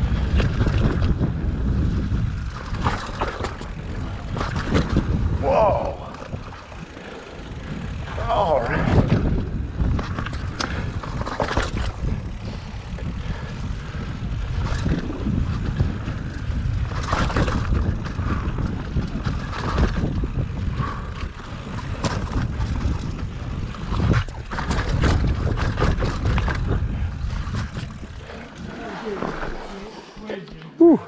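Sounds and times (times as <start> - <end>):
bike rattling and knocking: 0.0 - 28.7
wind rushing over microphone: 0.0 - 30.4.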